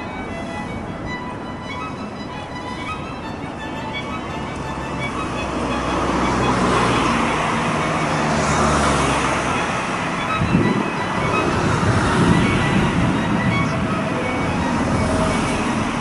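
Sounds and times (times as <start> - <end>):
engine passing: 0.0 - 16.0.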